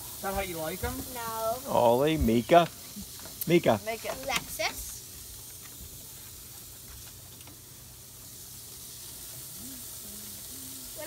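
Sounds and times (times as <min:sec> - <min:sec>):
hamburgers sizzling on a grill: 0:00.0 - 0:11.0.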